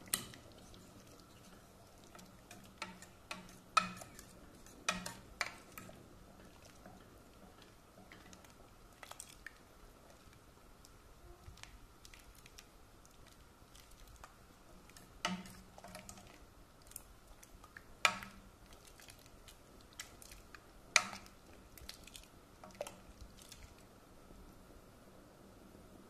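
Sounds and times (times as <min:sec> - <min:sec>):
spoon stirring thick soup: 0:00.0 - 0:23.9.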